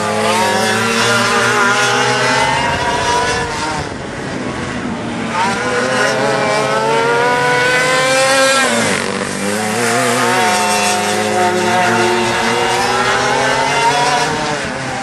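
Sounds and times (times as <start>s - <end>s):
go-kart engines revving: 0.0s - 15.0s.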